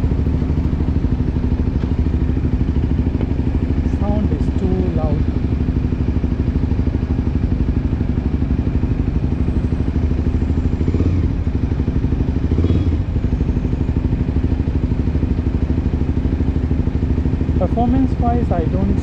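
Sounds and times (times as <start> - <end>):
motorcycle engine fast-pulsing exhaust: 0.0 - 19.0.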